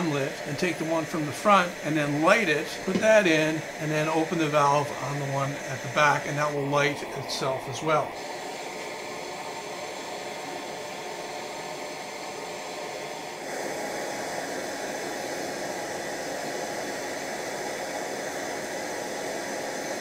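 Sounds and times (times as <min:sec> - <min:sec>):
gas torches hissing: 0:00.0 - 0:20.0.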